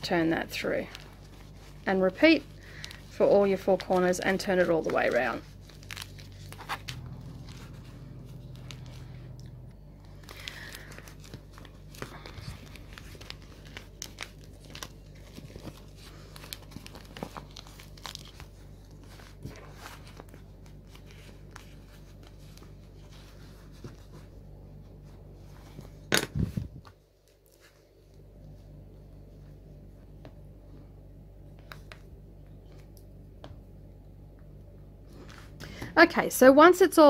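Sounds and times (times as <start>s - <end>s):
vinyl and fabric crinkling: 0.0s - 36.5s
steady low hum: 0.0s - 37.0s.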